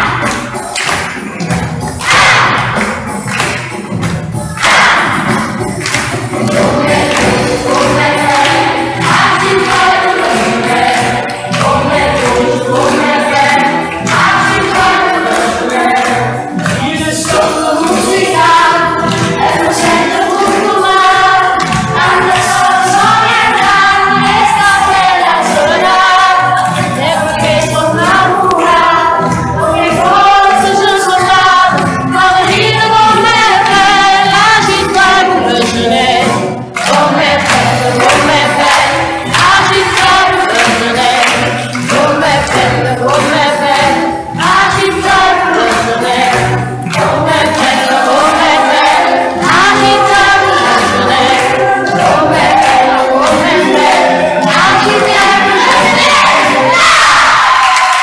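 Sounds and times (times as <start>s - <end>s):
steady beat: 0.0s - 57.1s
children's choir singing: 0.0s - 58.0s.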